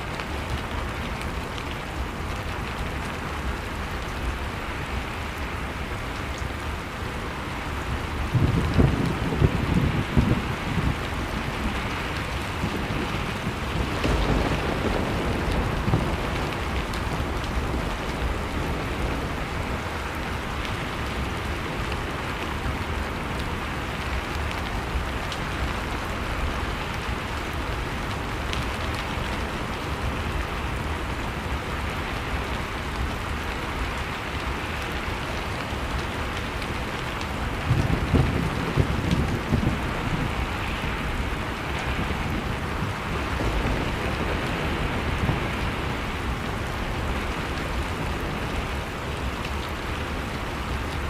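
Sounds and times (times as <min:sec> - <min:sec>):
faint fire crackles: 0:00.0 - 0:51.0.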